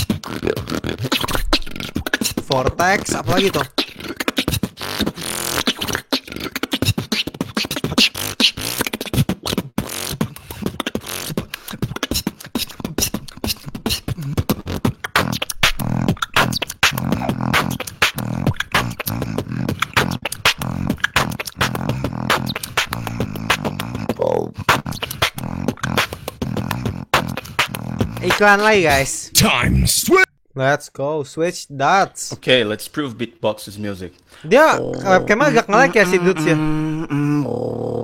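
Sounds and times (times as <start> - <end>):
person beatboxing: 0.0 - 29.8, 34.4 - 37.5.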